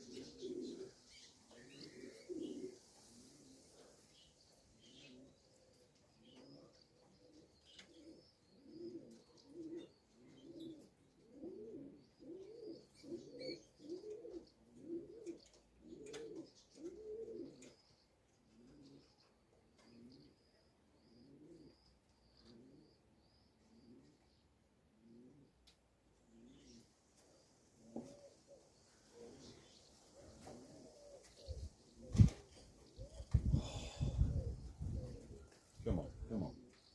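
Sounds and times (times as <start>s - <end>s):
faint small bird chirps: 0.0s - 33.4s
pigeons cooing: 0.0s - 36.9s.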